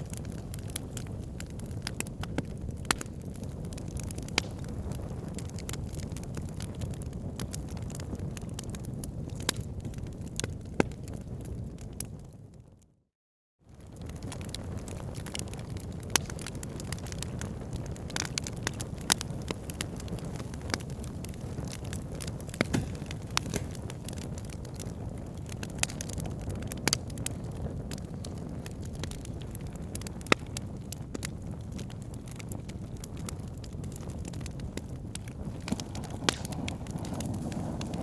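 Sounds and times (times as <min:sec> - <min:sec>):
fire crackling and popping: 0:00.0 - 0:12.8, 0:13.7 - 0:38.0
low rumble of flames: 0:00.0 - 0:13.0, 0:13.7 - 0:38.0.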